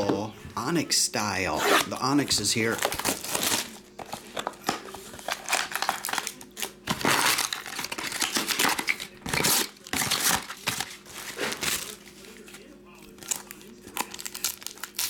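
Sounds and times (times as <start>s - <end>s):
plastic wrappers crinkling and tearing: 1.8s - 15.0s.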